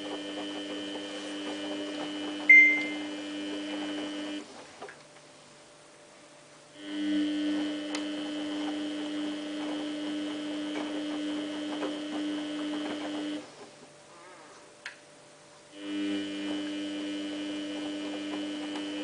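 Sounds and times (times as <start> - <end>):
washing machine electric hum: 0.0 - 19.0.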